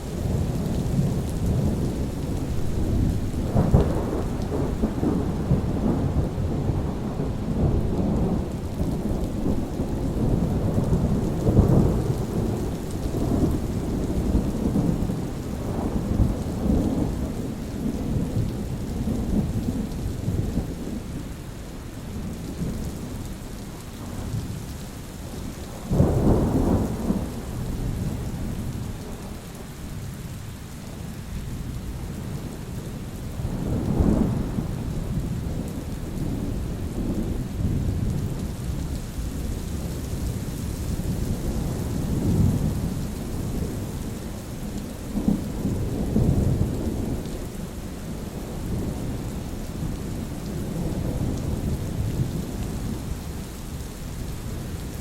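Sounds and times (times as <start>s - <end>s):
steady rain: 0.0s - 55.0s
low thunder rumbles: 0.1s - 21.3s, 31.0s - 55.0s.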